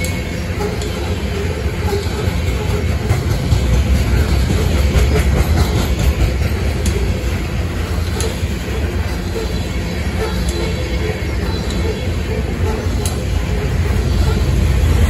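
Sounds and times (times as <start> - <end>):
steel wheels rumbling on rail: 0.0 - 15.0.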